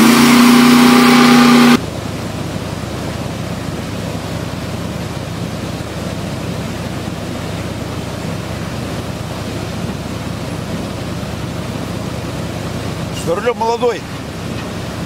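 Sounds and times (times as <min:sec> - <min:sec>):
truck engines droning: 0:00.0 - 0:15.0.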